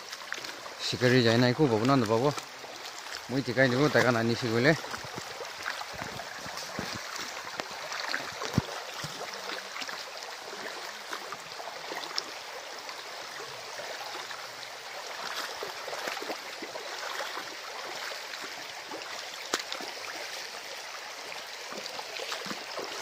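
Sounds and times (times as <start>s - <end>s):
stream running over rocks: 0.0s - 23.0s.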